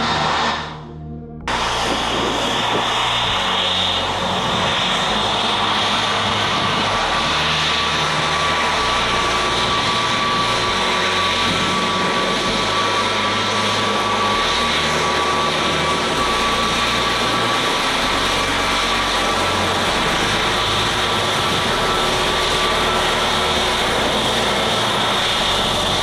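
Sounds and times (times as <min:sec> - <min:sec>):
jet airliner taxiing: 0:00.0 - 0:26.0.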